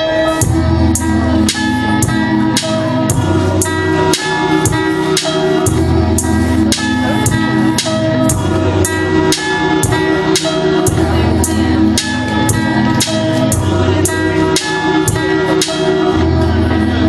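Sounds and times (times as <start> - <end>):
bass notes and sustained chords: 0.0 - 17.0.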